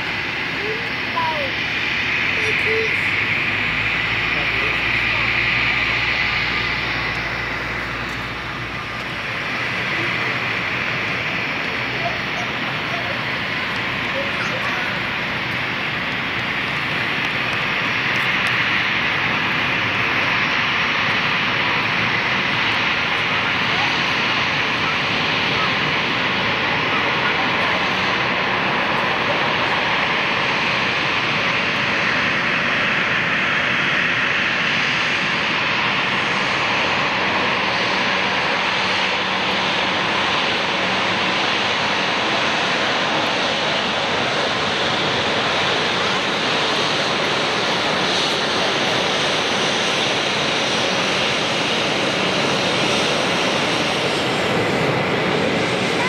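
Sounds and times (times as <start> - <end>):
jet airliner engines taxiing: 0.0 - 56.0.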